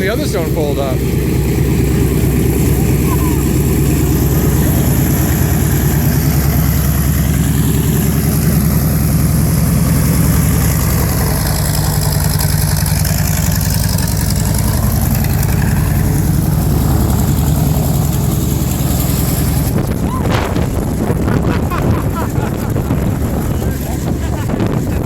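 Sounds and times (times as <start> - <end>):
radial engine idling: 0.0 - 25.0.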